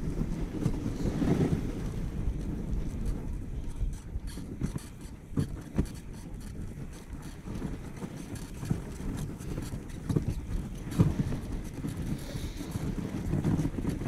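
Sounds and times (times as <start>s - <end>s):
dog sled rumbling on snow: 0.0s - 14.0s.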